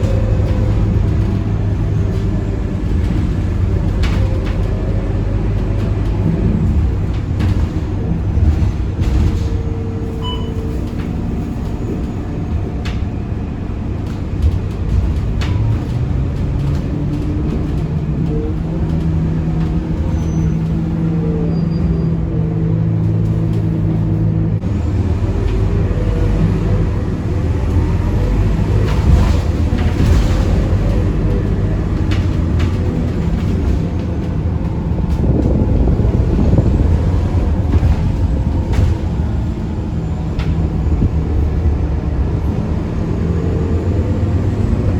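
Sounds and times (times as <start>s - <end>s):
bodywork clicks and rattles: 0.0s - 21.5s, 22.3s - 44.9s
bus diesel engine running: 0.0s - 44.9s.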